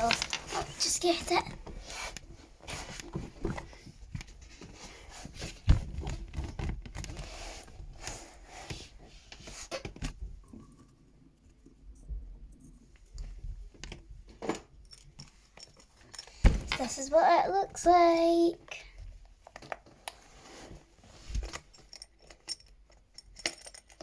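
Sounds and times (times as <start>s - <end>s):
rustling and scraping objects: 0.0s - 22.7s.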